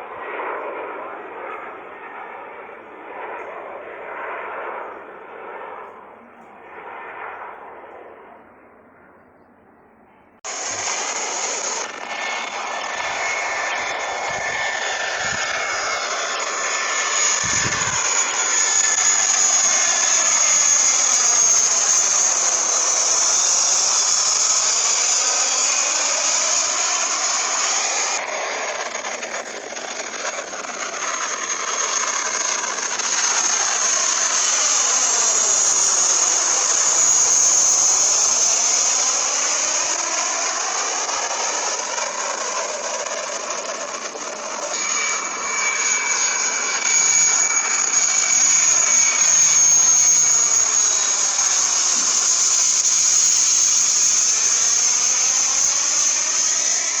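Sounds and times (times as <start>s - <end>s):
jet engine roar with whine: 0.0s - 57.0s.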